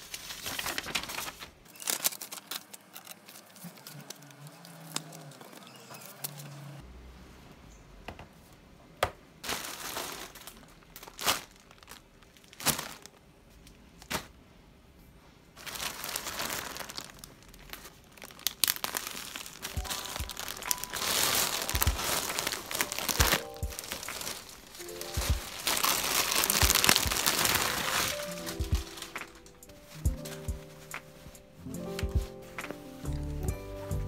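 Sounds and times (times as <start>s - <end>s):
plastic bags and bubble wrap crinkling: 0.0s - 6.5s, 9.4s - 14.4s, 15.5s - 34.0s.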